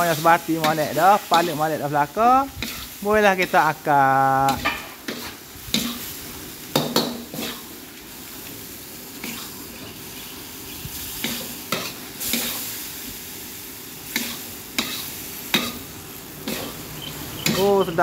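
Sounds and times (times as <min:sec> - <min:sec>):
spatula scraping a wok: 0:00.0 - 0:03.8, 0:04.4 - 0:13.4, 0:14.0 - 0:18.0
frying sizzle: 0:00.0 - 0:18.0.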